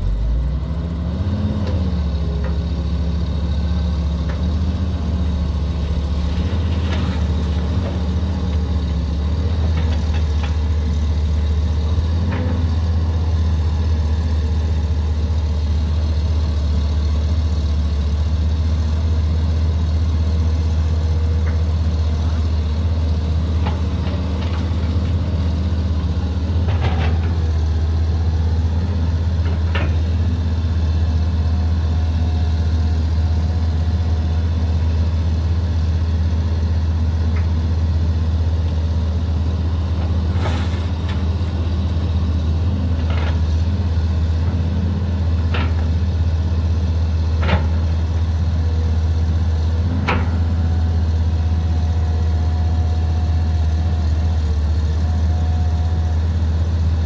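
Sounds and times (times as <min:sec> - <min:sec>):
excavator diesel engine droning: 0:00.0 - 0:57.0.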